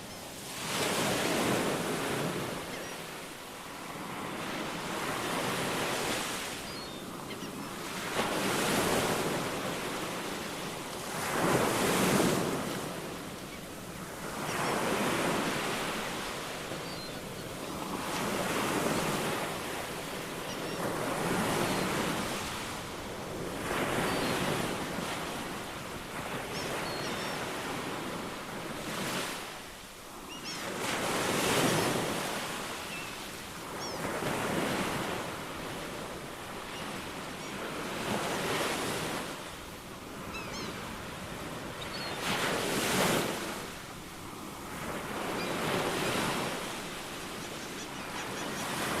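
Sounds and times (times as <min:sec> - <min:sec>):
ocean waves breaking: 0:03.2 - 0:26.8, 0:30.6 - 0:49.0.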